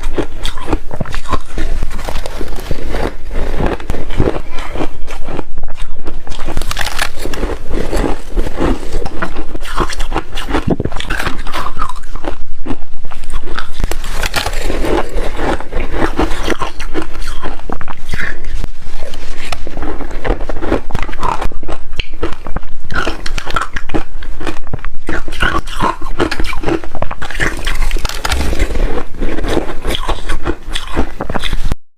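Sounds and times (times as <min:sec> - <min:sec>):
person chewing ice: 0:00.0 - 0:31.8.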